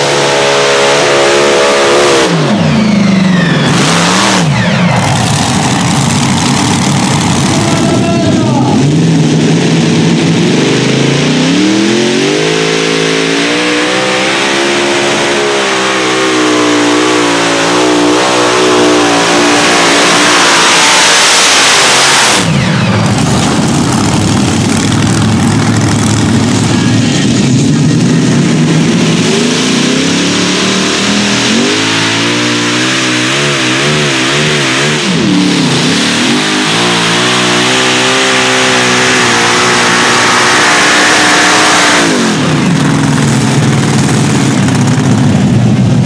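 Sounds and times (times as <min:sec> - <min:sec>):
engines revving loudly: 0:00.0 - 0:46.0.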